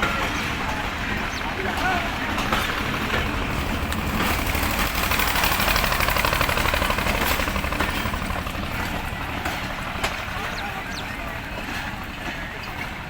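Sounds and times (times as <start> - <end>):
diesel locomotive engine rumble: 0.0 - 13.0
train rattling: 0.0 - 13.0.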